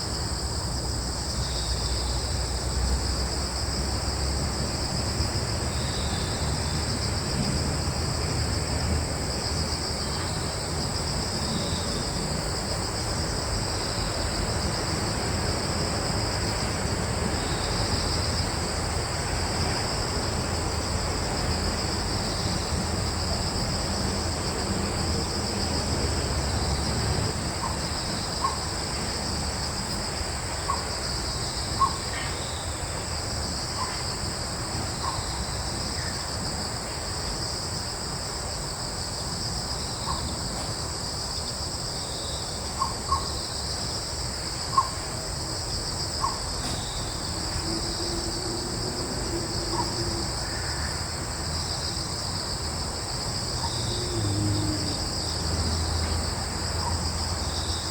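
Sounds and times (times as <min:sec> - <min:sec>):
crickets shrilling: 0:00.0 - 0:57.9
low breeze rumble: 0:00.0 - 0:57.9.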